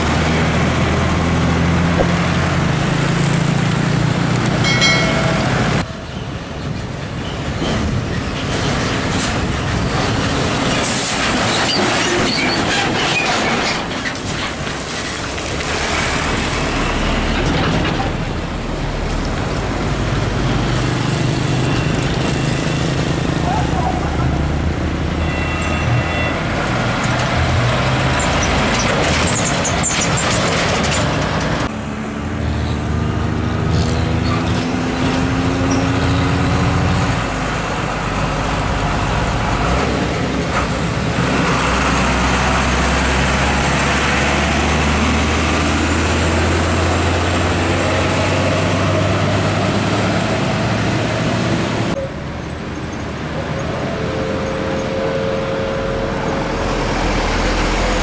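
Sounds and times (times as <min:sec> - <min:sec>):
diesel truck engines passing: 0:00.0 - 0:58.0.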